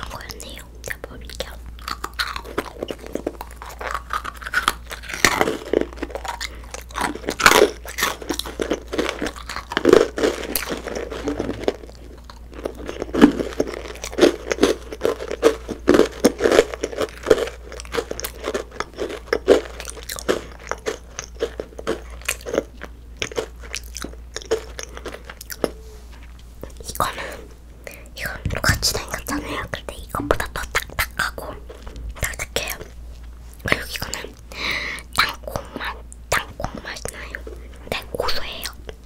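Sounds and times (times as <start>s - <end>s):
chewing crunchy macaron: 0.0s - 39.0s.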